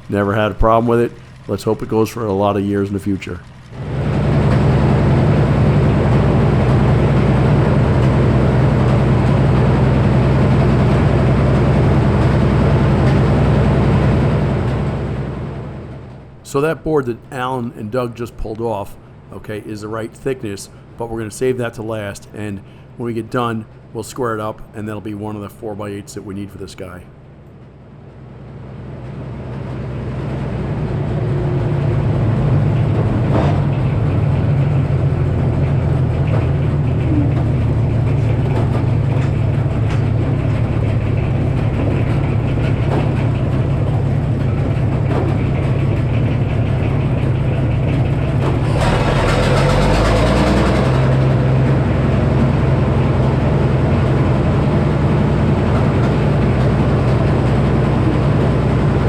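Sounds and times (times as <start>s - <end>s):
engine droning at low revs: 0.0s - 59.0s.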